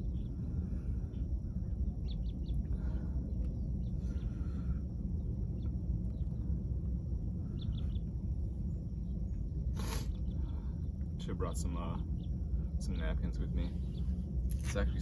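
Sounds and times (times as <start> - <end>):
birds chirping: 0.0 - 15.0
low outdoor rumble: 0.0 - 15.0.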